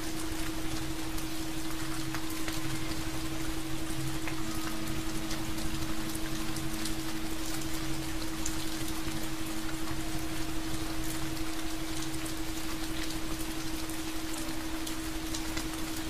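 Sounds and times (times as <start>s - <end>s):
rain drops ticking: 0.0s - 16.0s
low hum: 0.4s - 16.0s.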